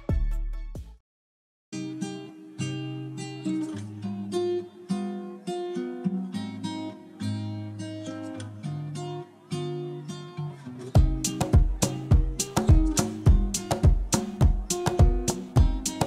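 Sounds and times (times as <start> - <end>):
acoustic guitar strumming: 1.7 - 16.0.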